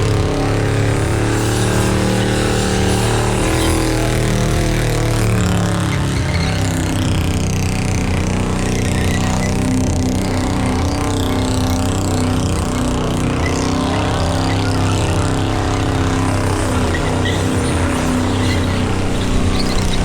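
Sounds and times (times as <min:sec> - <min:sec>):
car engine revving high: 0:00.0 - 0:20.0.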